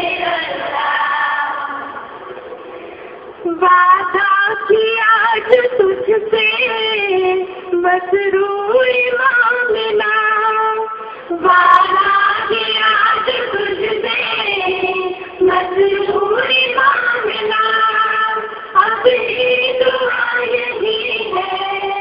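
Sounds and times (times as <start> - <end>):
women singing devotional song: 0.0 - 2.1, 3.4 - 22.0.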